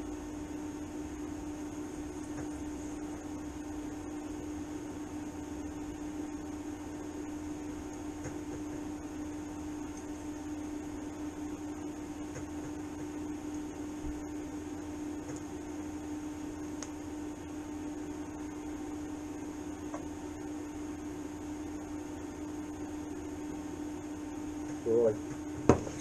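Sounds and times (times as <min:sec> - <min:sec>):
welding set humming and hissing: 0:00.0 - 0:26.0.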